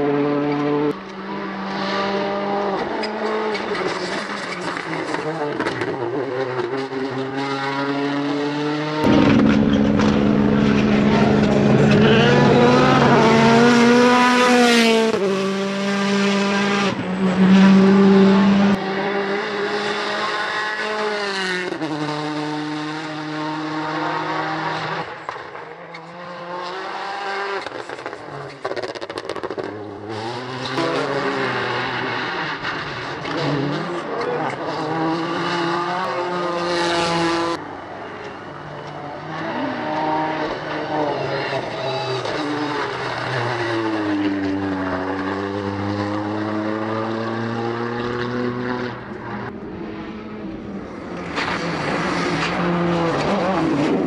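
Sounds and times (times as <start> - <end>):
rally car engine accelerating hard: 0.0 - 37.6, 38.8 - 54.0.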